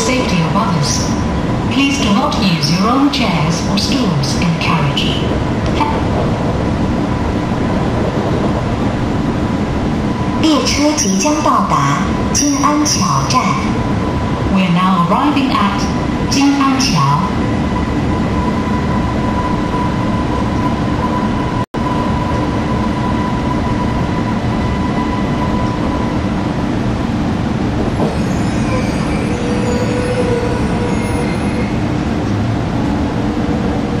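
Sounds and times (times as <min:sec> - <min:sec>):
train cabin rushing hum: 0:00.0 - 0:34.0.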